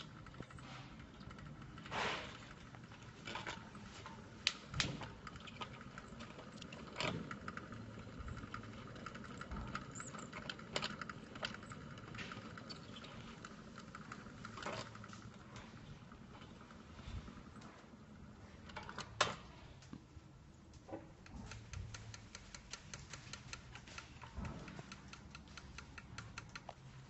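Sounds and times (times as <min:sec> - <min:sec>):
mechanism clicking and ticking: 0:00.0 - 0:16.8, 0:21.1 - 0:27.0
drive mechanism humming: 0:00.0 - 0:27.0.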